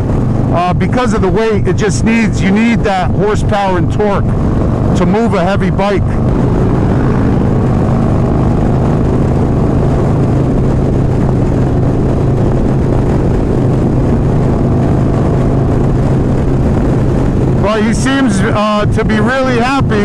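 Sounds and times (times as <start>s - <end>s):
motorcycle engine cruising: 0.0s - 20.0s
wind rushing: 0.0s - 20.0s.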